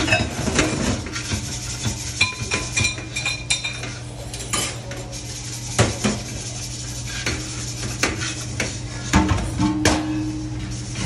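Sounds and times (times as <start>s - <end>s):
steel wool scouring a metal pot: 0.0s - 11.0s.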